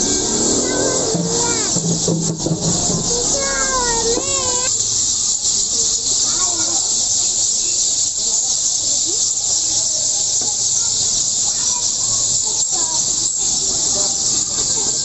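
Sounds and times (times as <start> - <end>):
high-pitched hiss: 0.0 - 15.0
sparrows chirping: 0.0 - 15.0.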